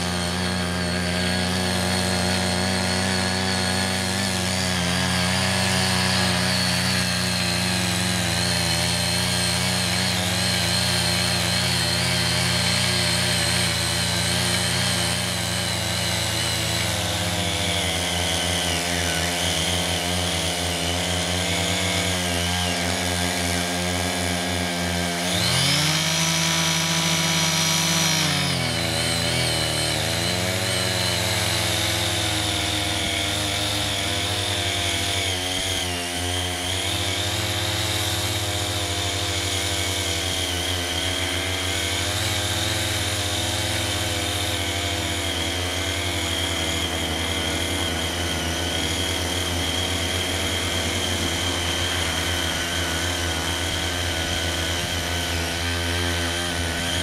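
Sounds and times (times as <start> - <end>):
cultivator engines running: 0.0 - 57.0.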